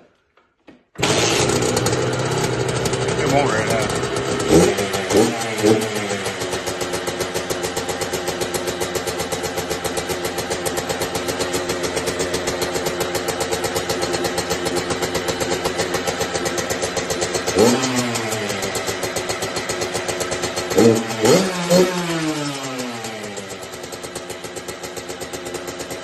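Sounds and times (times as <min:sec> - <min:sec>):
dirt bike idling with throttle blip: 0:01.0 - 0:26.0.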